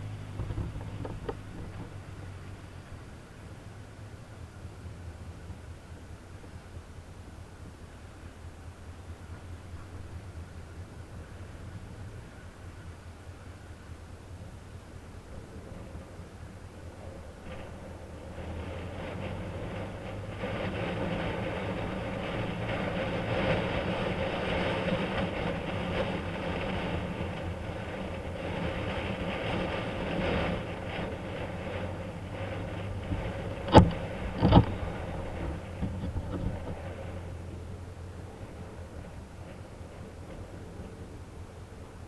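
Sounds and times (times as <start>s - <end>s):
motorcycle engine running: 0.0s - 42.0s
road and wind noise: 0.0s - 42.0s.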